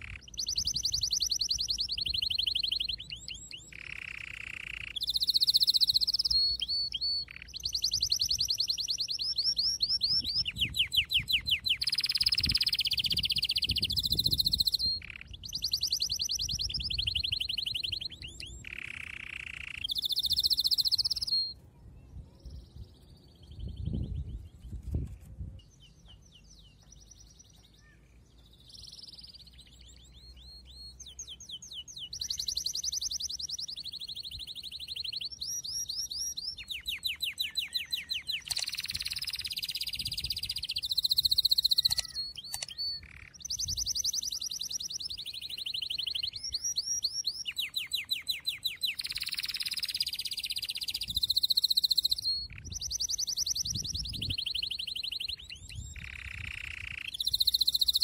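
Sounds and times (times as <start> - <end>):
songbird singing trills: 0.0 - 58.0.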